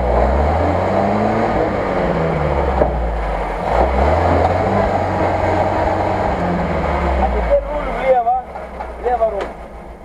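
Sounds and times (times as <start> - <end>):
engine revving under load: 0.0 - 8.9
tyres churning through mud: 0.0 - 9.8.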